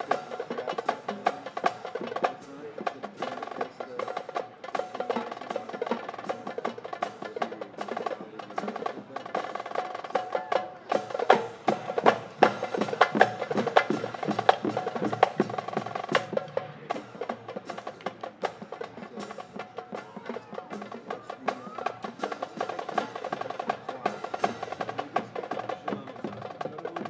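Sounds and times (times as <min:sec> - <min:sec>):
marching band playing: 0:00.0 - 0:27.0
wind instruments holding notes: 0:00.0 - 0:27.0.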